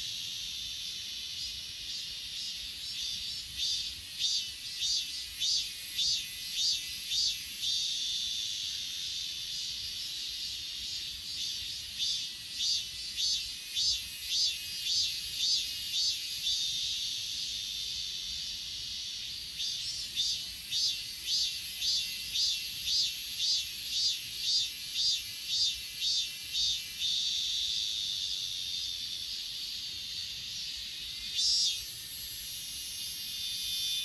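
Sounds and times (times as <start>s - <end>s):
high-pitched insect trill: 0.0s - 34.0s
insects chirping rhythmically: 0.0s - 34.0s.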